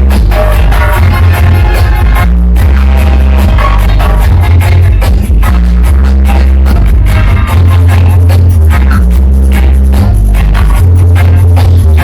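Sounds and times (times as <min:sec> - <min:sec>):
heavy bass line: 0:00.0 - 0:12.0.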